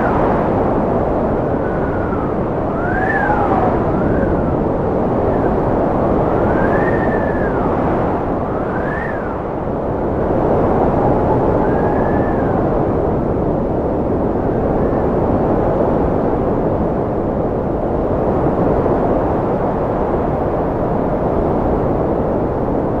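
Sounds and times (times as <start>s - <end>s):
howling wind whistle: 0.0s - 23.0s
strong wind rushing: 0.0s - 23.0s.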